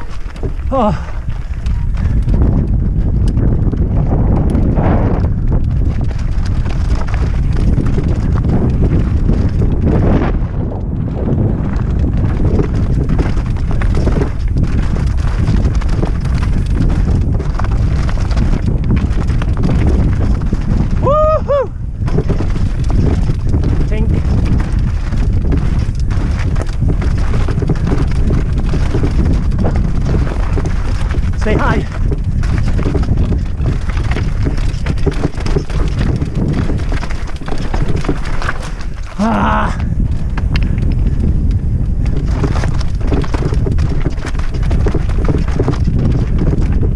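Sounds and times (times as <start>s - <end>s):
bike rattling over stones: 0.0s - 46.9s
wind buffeting microphone: 0.0s - 46.9s.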